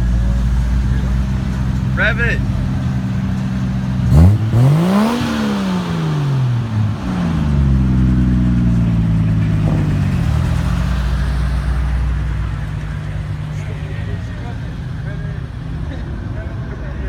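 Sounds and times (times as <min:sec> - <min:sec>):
car engine idling: 0:00.0 - 0:17.0
car engine revving: 0:00.0 - 0:17.0.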